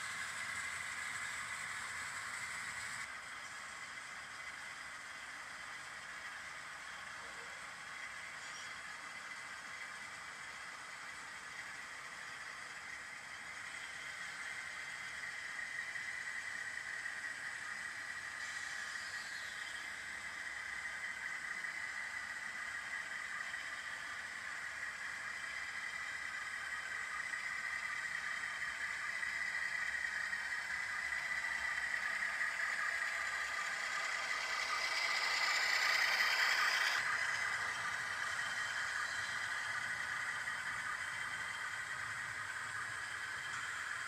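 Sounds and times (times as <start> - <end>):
model train whir and clatter: 0.0 - 44.0.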